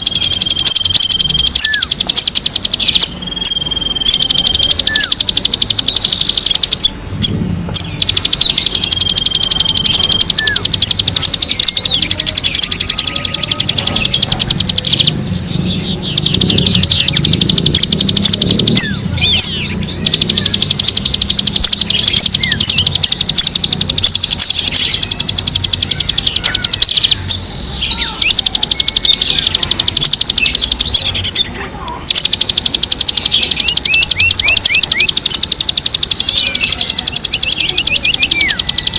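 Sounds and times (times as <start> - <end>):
songbirds chirping rapidly: 0.0 - 38.9.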